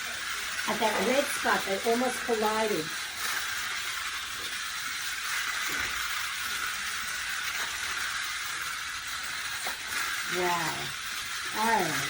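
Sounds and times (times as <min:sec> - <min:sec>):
toy race cars whirring: 0:00.0 - 0:12.0.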